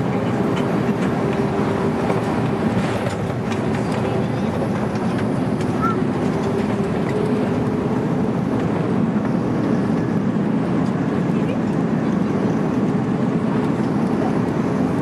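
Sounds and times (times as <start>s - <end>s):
aircraft cabin engine hum: 0.0s - 15.0s.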